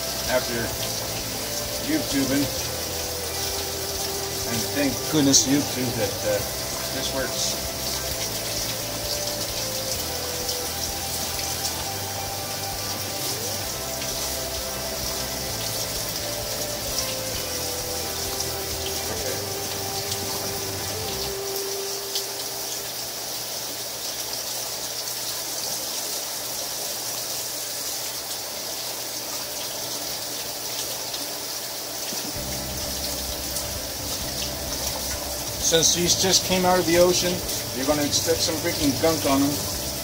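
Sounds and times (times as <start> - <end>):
tap water running into sink: 0.0 - 40.0.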